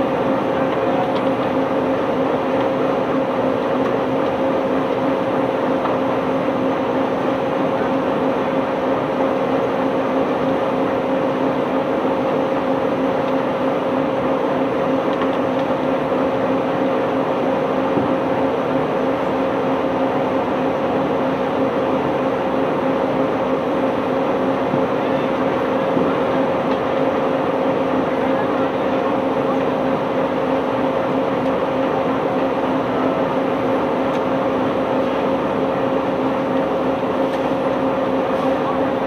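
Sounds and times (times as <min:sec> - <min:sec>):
heavy machinery hum: 0:00.0 - 0:39.0.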